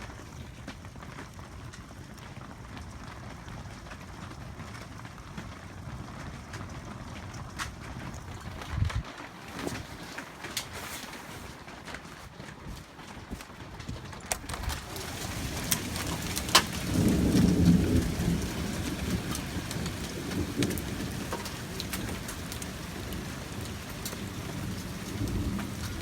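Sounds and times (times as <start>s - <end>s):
hail pelting hard surfaces: 0.0s - 26.0s.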